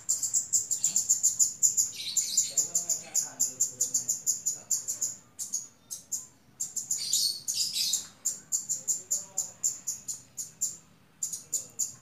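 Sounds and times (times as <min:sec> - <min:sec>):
songbird high chirps: 0:00.0 - 0:12.0.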